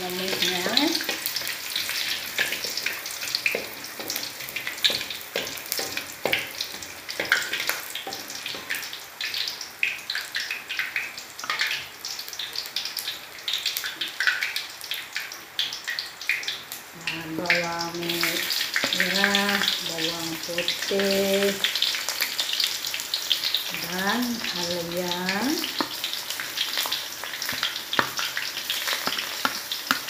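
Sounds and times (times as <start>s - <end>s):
spices sizzling in hot oil: 0.0s - 30.0s.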